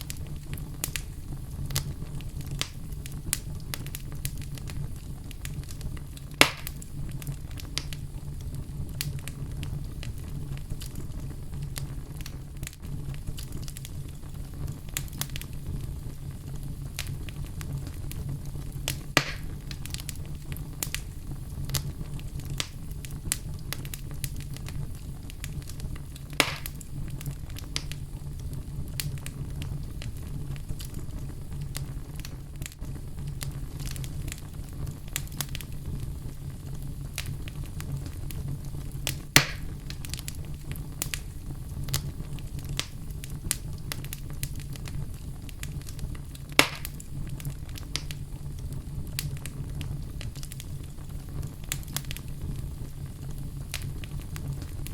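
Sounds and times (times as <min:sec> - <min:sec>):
fire pops: 0:00.0 - 0:54.9
low rumble of flames: 0:00.0 - 0:54.9
wood fire crackling: 0:00.0 - 0:54.9.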